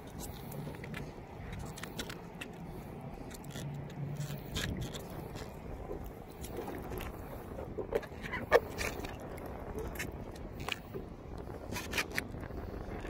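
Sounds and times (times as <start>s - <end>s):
light clicks and scrapes: 0.0s - 13.0s.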